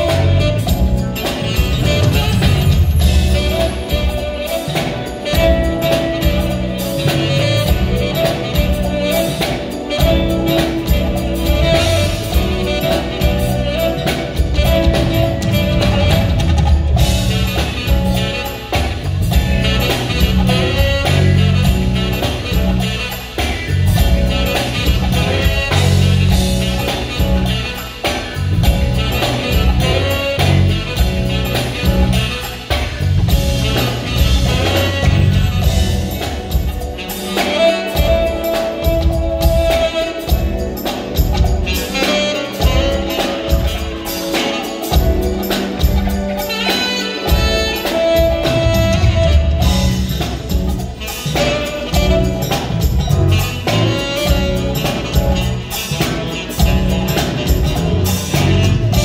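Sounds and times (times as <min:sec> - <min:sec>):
saxophone lead: 0:00.0 - 0:59.0
smooth jazz band playing: 0:00.0 - 0:59.0.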